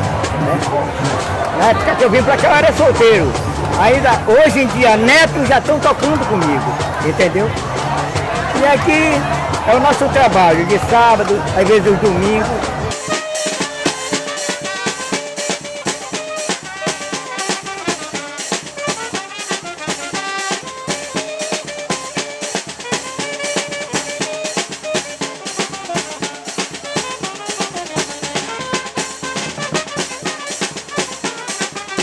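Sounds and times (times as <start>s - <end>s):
bass drum beat: 0.0s - 32.0s
snare drum beat: 0.0s - 32.0s
street band playing: 0.0s - 32.0s.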